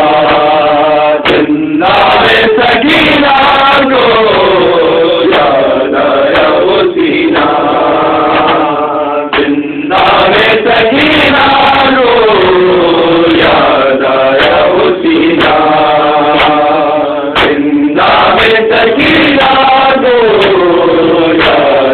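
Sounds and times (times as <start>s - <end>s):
men chanting a lament: 0.0s - 21.9s.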